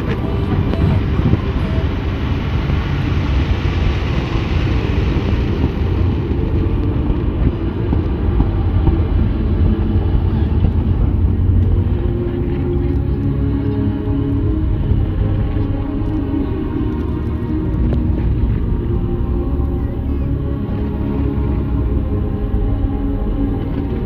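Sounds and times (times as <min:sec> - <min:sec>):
fireworks low rumble: 0:00.0 - 0:24.0.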